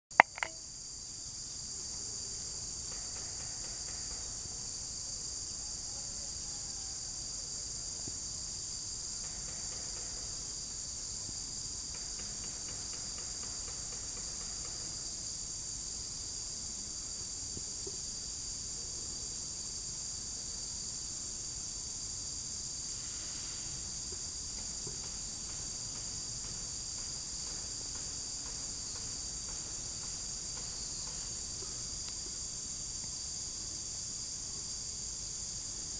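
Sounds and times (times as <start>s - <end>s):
insects droning: 0.1s - 35.9s.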